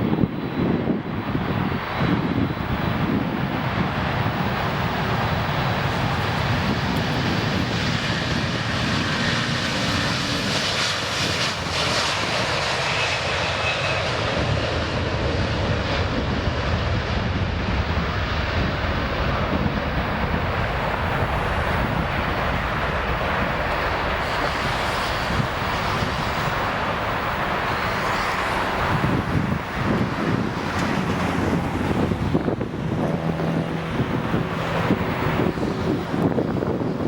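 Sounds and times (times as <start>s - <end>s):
jet engines rushing: 0.0s - 37.0s.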